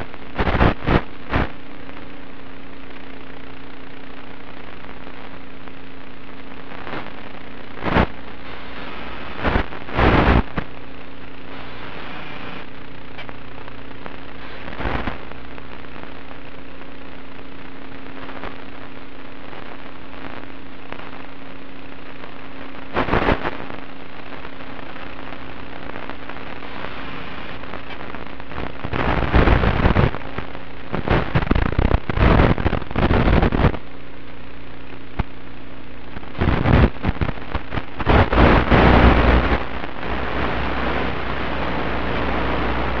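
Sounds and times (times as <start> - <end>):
crackling bursts: 0.0 - 43.0
faint steady hum: 0.0 - 43.0
static hiss: 0.0 - 43.0.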